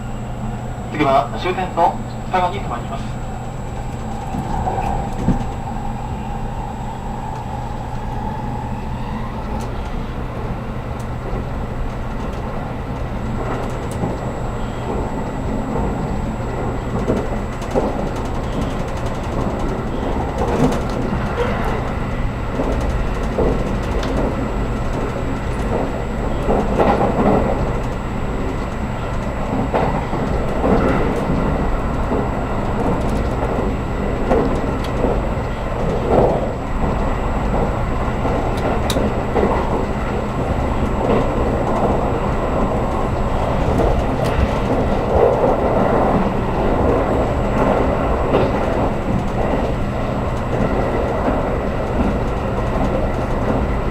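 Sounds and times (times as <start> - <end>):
train cabin rattle: 0.0 - 53.9
train wheels rumbling on rail: 0.0 - 53.9.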